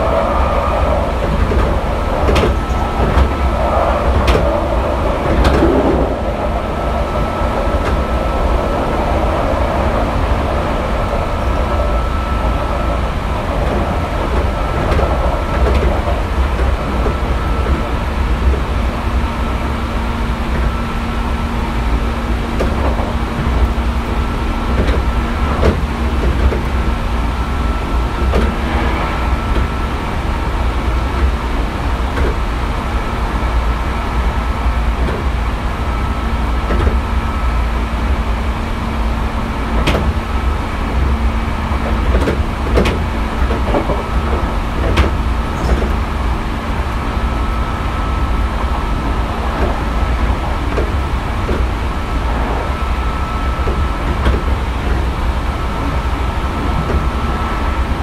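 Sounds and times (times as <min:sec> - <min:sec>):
train hum and high tone: 0:00.0 - 0:58.0
train wheels rumbling on rail: 0:00.0 - 0:58.0.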